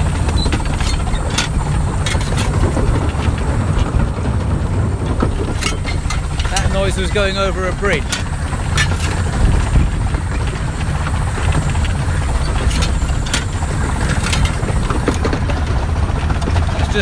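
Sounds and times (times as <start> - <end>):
steam locomotive rumble: 0.0 - 17.0.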